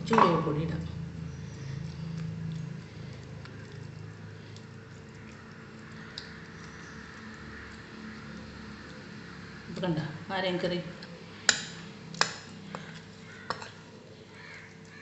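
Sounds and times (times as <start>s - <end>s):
soft squelching of stirred curry: 1.3s - 9.7s, 11.0s - 15.0s.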